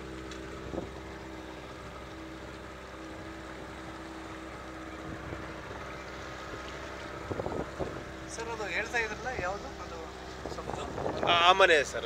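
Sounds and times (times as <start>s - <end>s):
motorboat engine humming: 0.0s - 12.0s.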